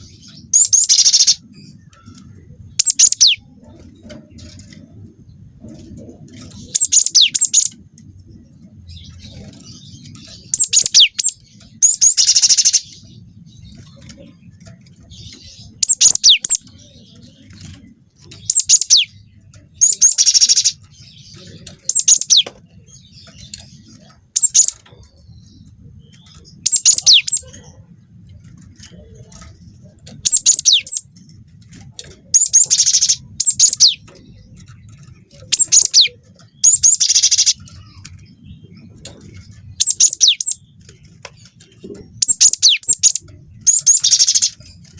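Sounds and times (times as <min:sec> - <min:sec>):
bird song high-pitched phrases: 0:00.0 - 0:07.8, 0:08.4 - 0:31.2, 0:31.9 - 0:44.9.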